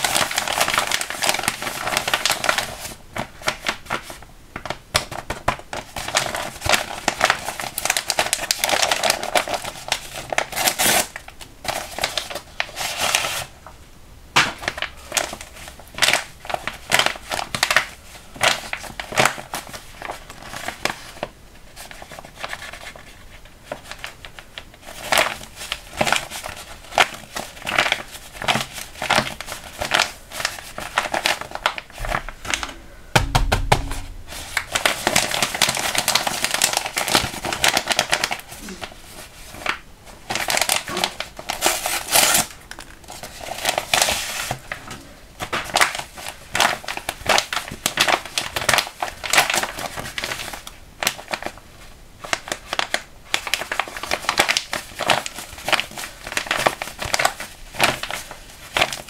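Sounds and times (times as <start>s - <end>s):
paper crinkling and tearing: 0.0s - 13.5s, 14.4s - 32.8s, 33.4s - 51.6s, 52.2s - 59.0s.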